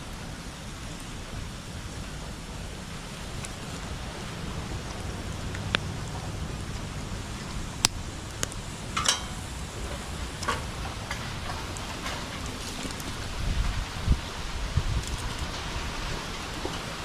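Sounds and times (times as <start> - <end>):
bonfire crackling: 0.0 - 17.0
low rumble: 1.1 - 15.4.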